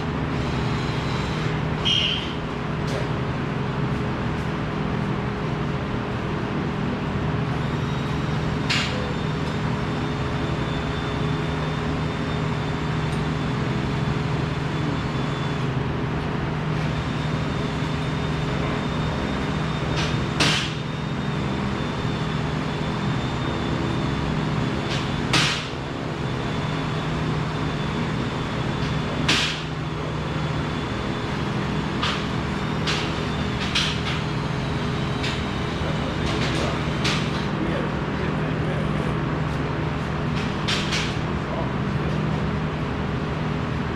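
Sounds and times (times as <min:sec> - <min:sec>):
machinery hum: 0:00.0 - 0:43.9.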